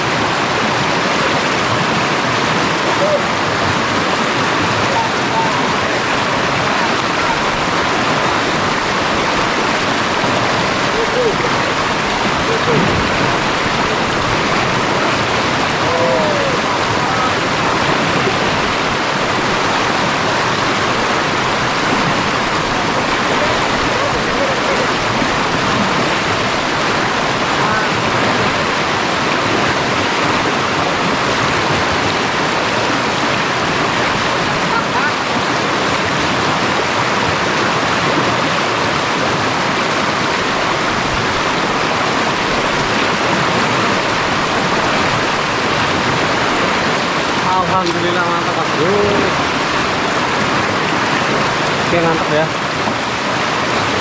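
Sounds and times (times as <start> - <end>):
river water rushing over rapids: 0.0 - 54.0.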